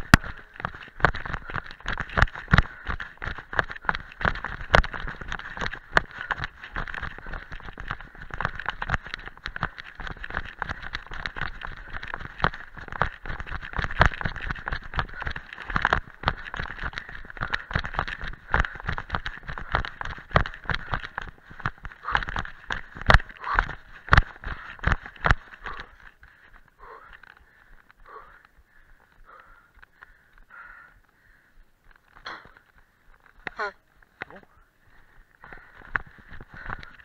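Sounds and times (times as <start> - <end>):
camera harness rustling: 0.0 - 31.2, 31.8 - 37.0
running footfalls on rocky dirt path: 0.0 - 37.0.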